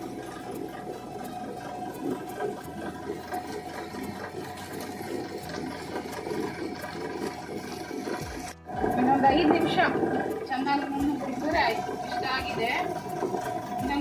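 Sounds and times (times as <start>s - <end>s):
pot of liquid bubbling: 0.0s - 14.0s.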